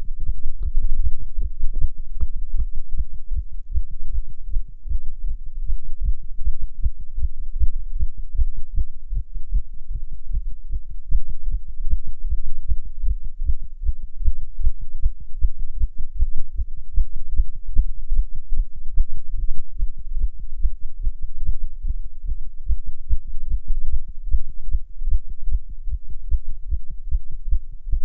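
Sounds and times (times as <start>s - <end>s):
rapid heartbeat thuds: 0.0s - 28.0s.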